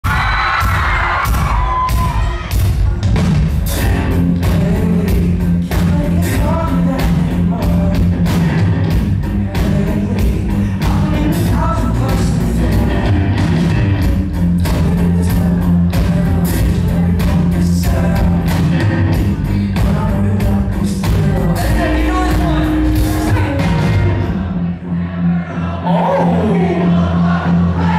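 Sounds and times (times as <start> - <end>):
live pop-rock band: 0.0 - 27.9
male singer: 3.8 - 27.9.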